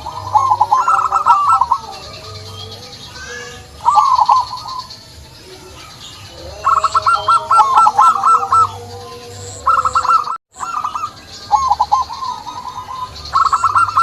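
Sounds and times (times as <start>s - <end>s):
dove cooing: 0.0s - 14.0s
faint high chirps: 0.0s - 14.0s.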